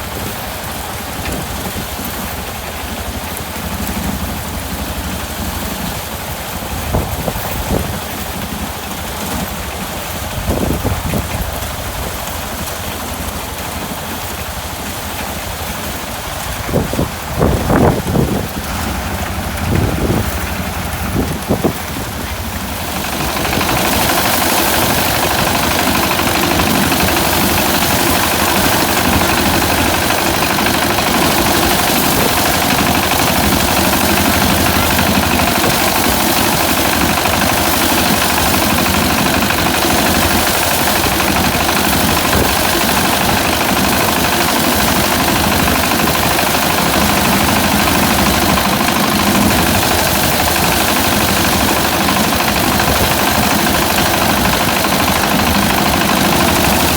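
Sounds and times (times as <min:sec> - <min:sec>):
harvester engine chugging: 0:00.0 - 0:56.9.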